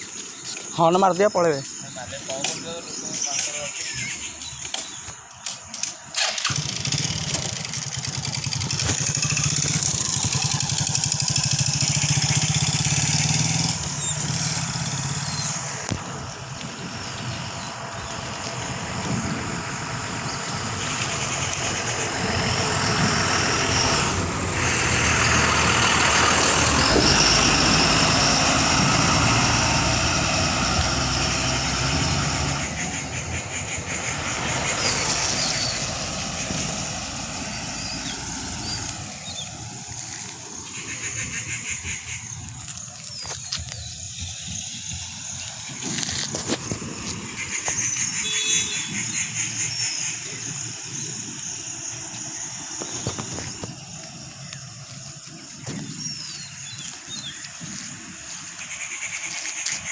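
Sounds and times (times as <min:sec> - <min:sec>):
road traffic engine hum: 0:00.0 - 0:59.9.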